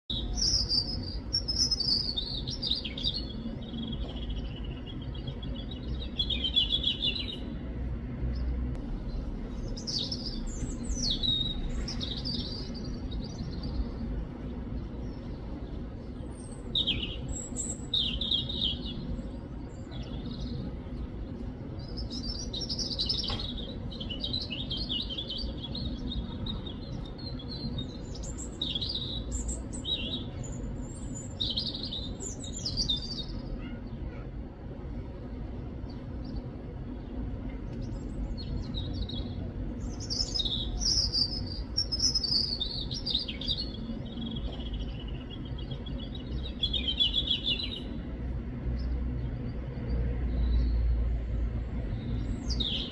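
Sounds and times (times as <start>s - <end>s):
robin chirping and singing: 0.1s - 7.7s, 8.3s - 34.3s, 35.7s - 49.7s, 50.3s - 52.9s
low background hum: 0.1s - 52.9s.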